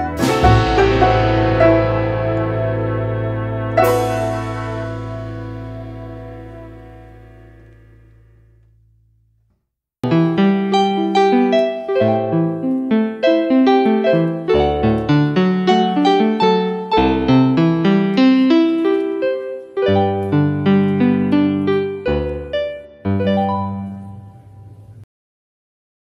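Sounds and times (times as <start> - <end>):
piano music: 0.0 - 8.7, 10.0 - 25.0.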